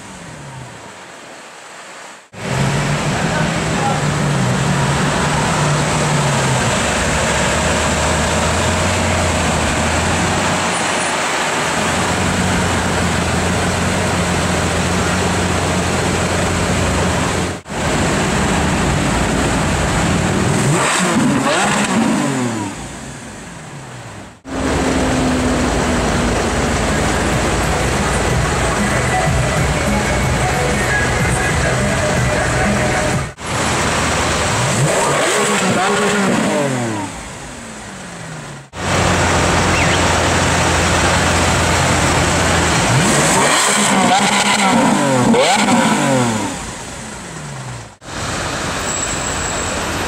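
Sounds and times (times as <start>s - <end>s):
car engine idling and revving: 0.0s - 50.0s.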